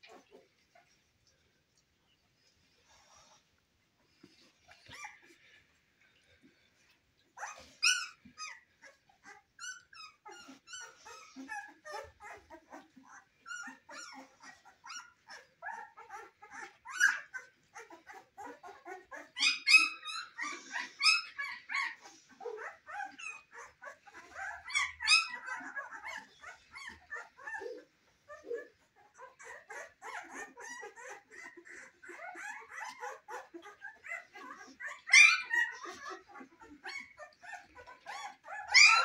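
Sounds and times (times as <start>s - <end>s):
puppies crying: 7.3s - 39.0s.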